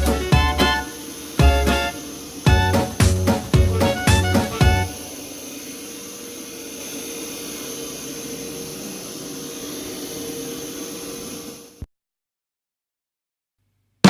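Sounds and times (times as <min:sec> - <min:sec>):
extraction vacuum hissing: 0:00.0 - 0:11.9.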